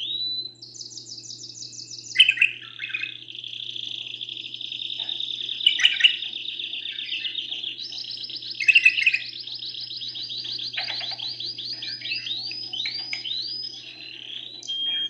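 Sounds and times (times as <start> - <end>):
canary trilling: 2.2 - 15.0.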